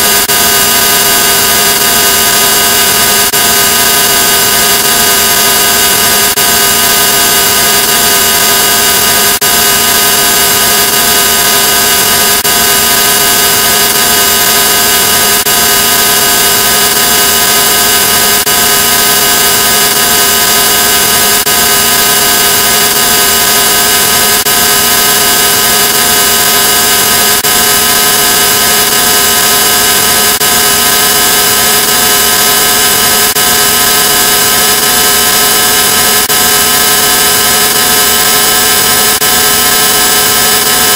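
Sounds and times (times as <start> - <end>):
distorted electronic hissing drone: 0.0 - 40.9.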